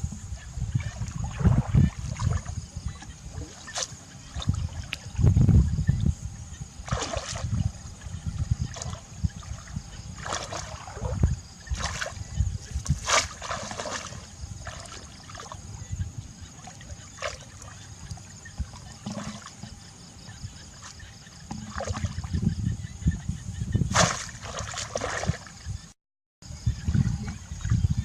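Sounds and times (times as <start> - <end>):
water splashing and trickling: 0.0 - 23.1, 23.8 - 25.8.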